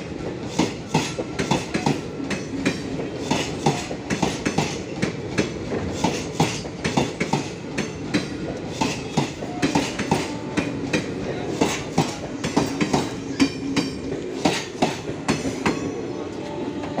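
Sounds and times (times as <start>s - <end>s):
train wheels clacking over joints: 0.0s - 16.1s
train rumble: 0.0s - 17.0s.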